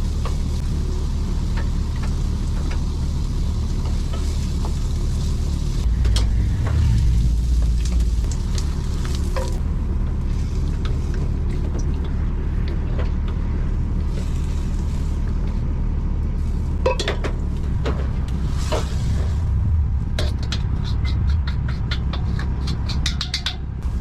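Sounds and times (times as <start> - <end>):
low mechanical rumble: 0.0 - 24.0.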